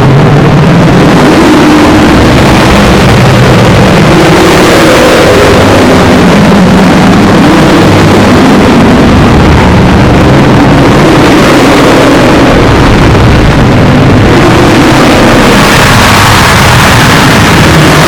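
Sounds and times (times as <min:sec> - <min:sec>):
harsh distorted noisy drone: 0:00.0 - 0:18.0.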